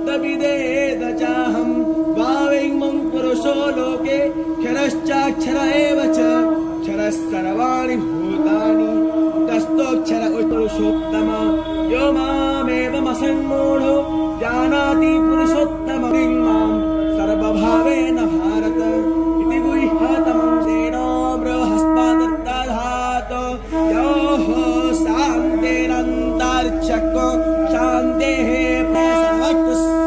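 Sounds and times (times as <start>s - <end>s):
conch shell blown: 0.0s - 30.0s
person chanting: 0.0s - 30.0s.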